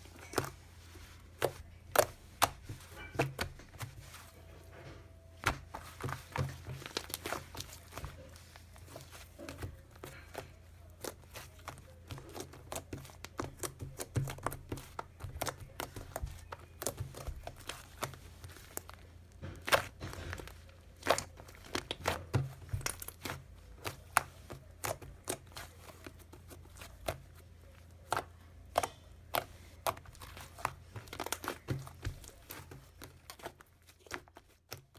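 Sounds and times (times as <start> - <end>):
slime crinkling and popping: 5.3 - 34.9.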